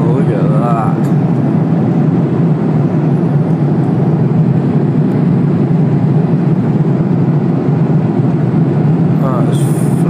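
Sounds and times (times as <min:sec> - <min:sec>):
aircraft cabin drone: 0:00.0 - 0:10.0.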